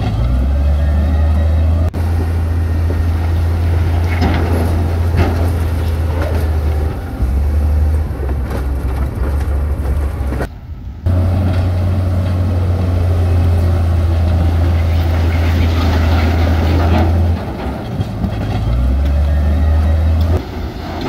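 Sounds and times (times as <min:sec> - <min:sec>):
diesel machinery engine drone: 0:00.0 - 0:21.0.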